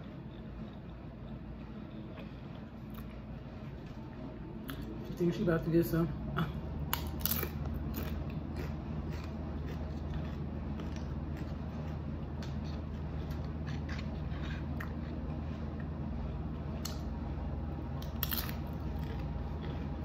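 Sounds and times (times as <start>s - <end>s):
chewing crisp tortilla: 0.0s - 5.1s, 6.5s - 20.0s
steady low hum: 0.0s - 20.0s.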